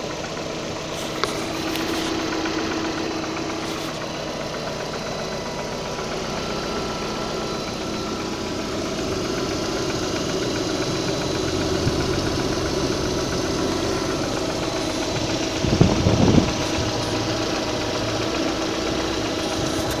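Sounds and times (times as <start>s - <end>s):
car engine idling with knock: 0.0s - 20.0s.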